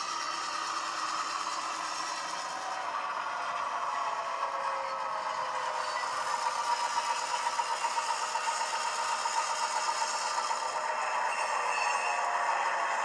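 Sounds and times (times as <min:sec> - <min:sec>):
model locomotive engine sound: 0:00.0 - 0:13.0.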